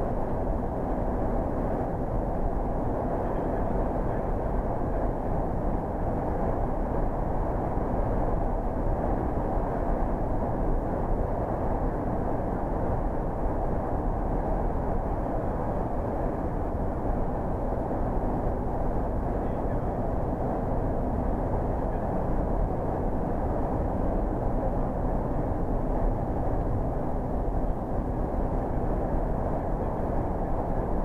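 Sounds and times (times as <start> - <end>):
coach engine and tyres rumble: 0.0 - 31.0.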